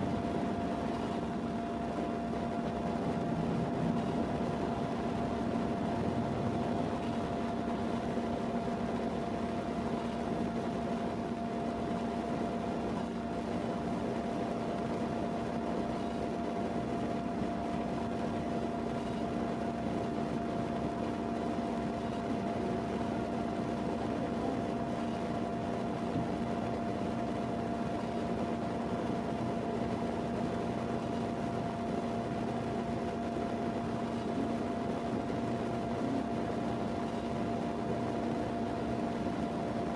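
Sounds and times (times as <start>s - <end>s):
mechanical hum with whining tone: 0.0s - 39.9s.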